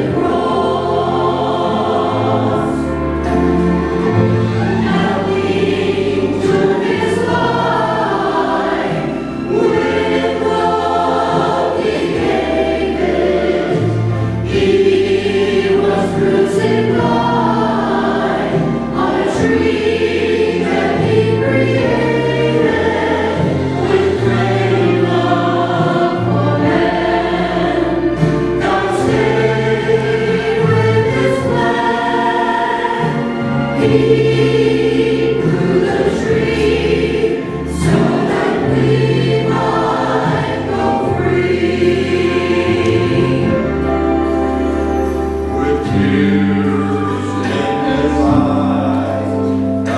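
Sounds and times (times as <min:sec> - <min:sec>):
accompaniment low bass notes: 0:00.0 - 0:49.9
choir singing a hymn: 0:00.0 - 0:49.9.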